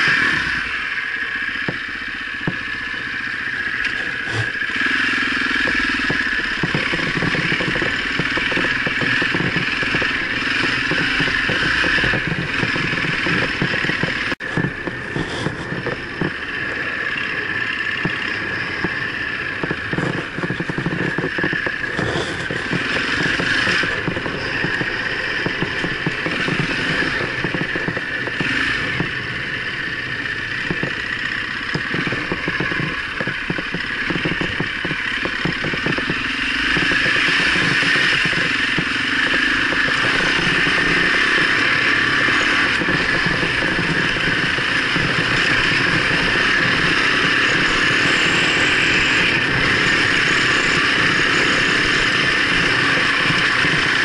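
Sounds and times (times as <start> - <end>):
motorcycle engine running: 0.0 - 54.0
wind noise on microphone: 5.6 - 54.0.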